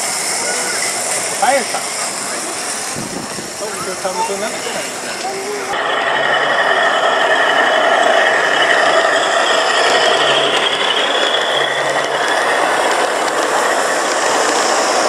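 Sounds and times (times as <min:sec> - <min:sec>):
model train rattling on rails: 0:00.0 - 0:15.0.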